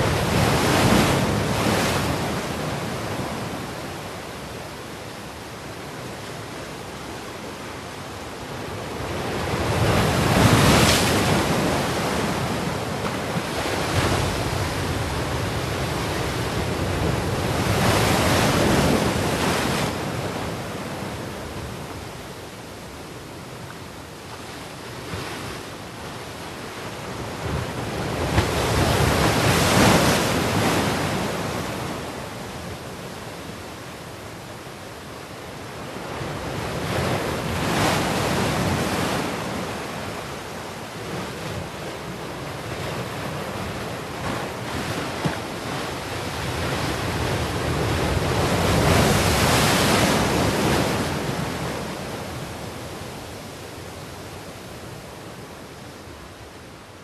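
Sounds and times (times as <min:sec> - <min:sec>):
waves crashing on shore: 0:00.0 - 0:57.0.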